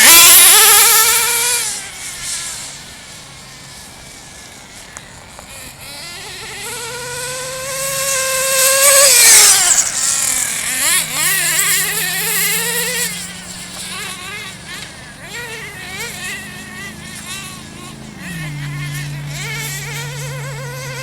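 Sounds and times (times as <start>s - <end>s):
rc car engine revving: 0.0s - 21.0s.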